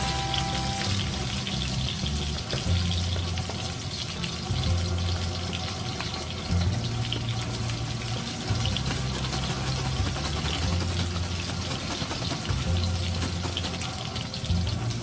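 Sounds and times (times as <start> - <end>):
low background music: 0.0 - 15.0
tap water running into sink: 0.0 - 15.0.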